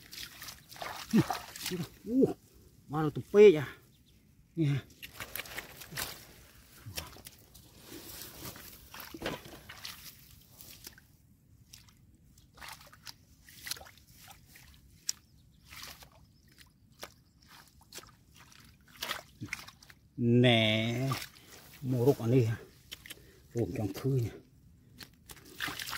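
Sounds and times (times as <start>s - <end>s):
muddy water sloshing and squelching: 0.0s - 3.3s, 4.6s - 25.9s.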